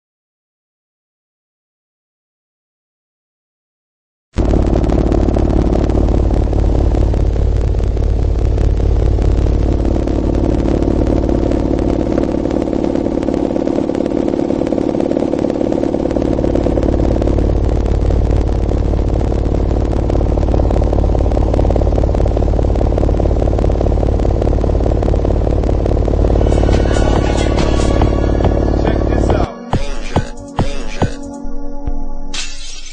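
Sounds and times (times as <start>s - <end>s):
subwoofers playing deep bass drone: 4.4s - 32.3s.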